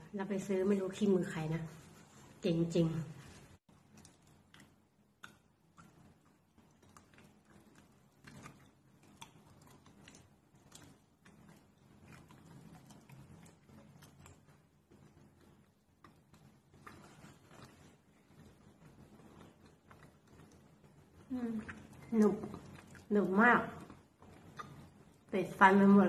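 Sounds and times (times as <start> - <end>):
faint chewing mouth sounds: 3.2 - 25.6.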